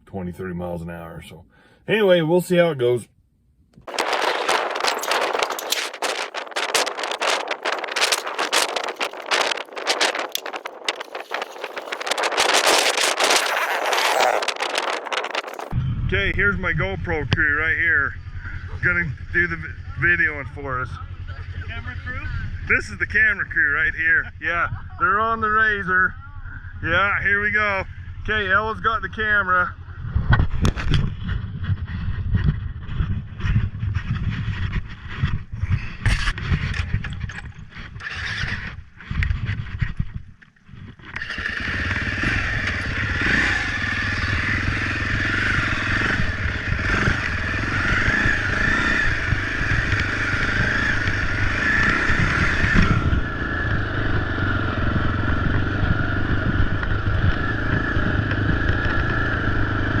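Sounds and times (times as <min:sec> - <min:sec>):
wind buffeting microphone: 0:03.8 - 0:25.2, 0:27.7 - 1:00.0
dirt bike engine running: 0:03.8 - 0:40.2, 0:41.2 - 1:00.0.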